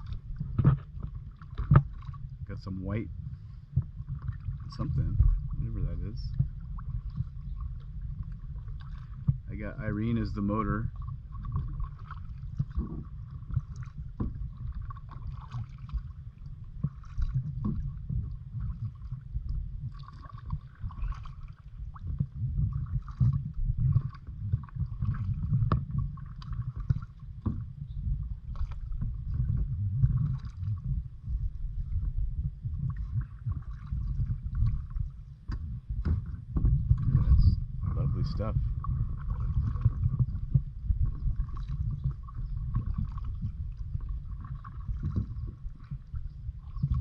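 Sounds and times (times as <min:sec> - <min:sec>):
low rumble: 0:00.0 - 0:47.0
paddle splashes: 0:00.0 - 0:47.0.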